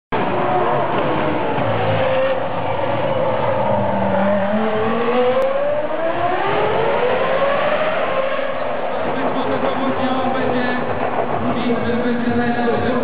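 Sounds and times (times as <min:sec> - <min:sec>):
racing car engine at high revs: 0:00.1 - 0:13.0.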